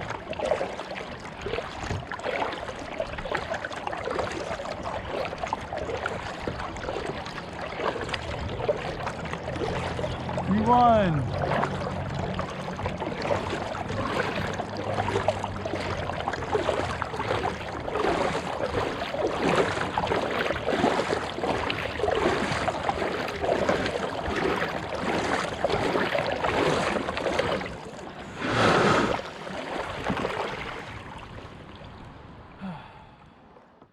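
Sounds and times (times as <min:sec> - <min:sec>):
water rush: 0:00.0 - 0:33.6
water splashing around kayak: 0:00.0 - 0:33.9.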